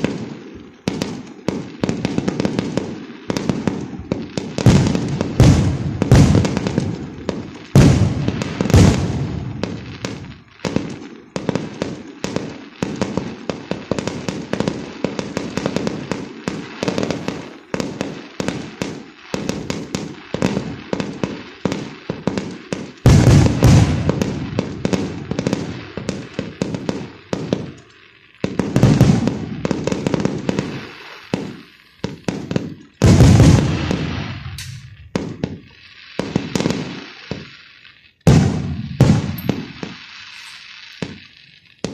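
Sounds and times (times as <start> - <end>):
fireworks booming volleys: 0.0 - 41.9
fireworks crackling bangs: 0.0 - 41.9.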